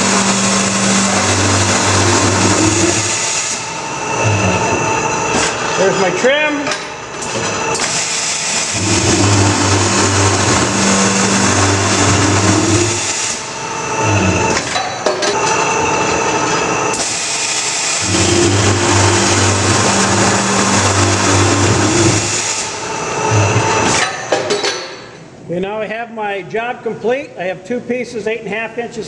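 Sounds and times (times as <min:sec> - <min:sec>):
cold saw cutting metal tubing: 0:00.0 - 0:24.4.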